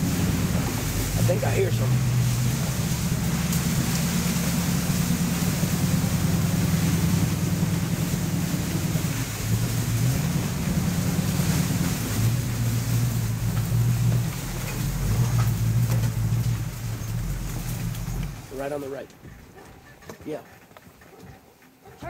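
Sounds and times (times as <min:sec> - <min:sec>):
vehicle engine running: 0:00.0 - 0:19.1.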